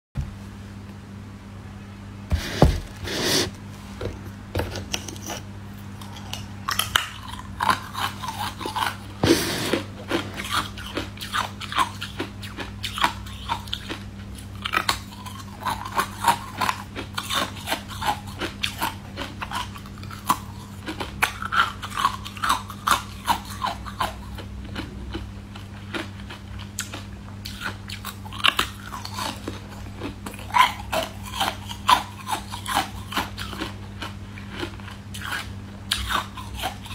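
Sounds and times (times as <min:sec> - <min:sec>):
low steady hum: 0:00.2 - 0:36.9.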